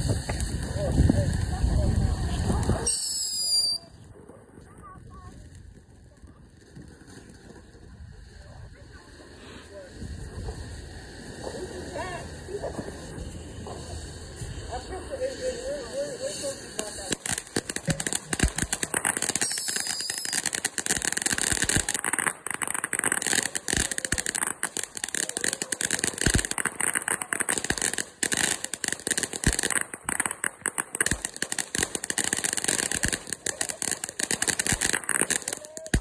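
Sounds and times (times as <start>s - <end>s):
firework fountain hissing and crackling: 0.0s - 36.0s.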